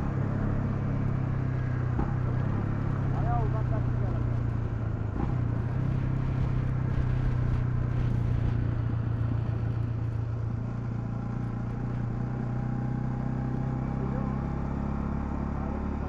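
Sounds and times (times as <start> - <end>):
single-cylinder engine running: 0.0 - 16.0.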